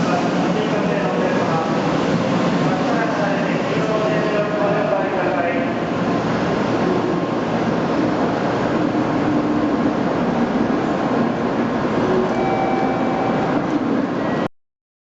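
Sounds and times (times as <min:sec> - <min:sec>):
high-speed train rushing noise: 0:00.0 - 0:14.5.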